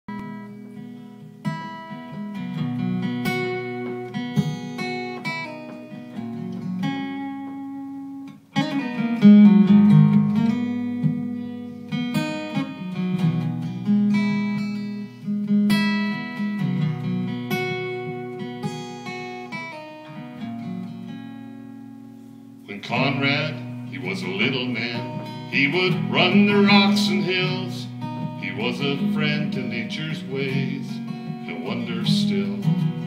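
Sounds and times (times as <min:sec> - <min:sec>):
acoustic guitar picking and strumming: 0:00.1 - 0:33.0.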